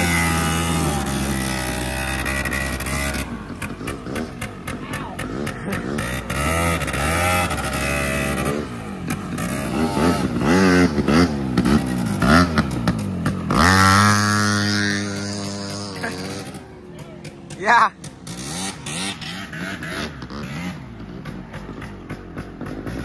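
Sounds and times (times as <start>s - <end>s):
small two-stroke engine revving: 0.0s - 23.0s.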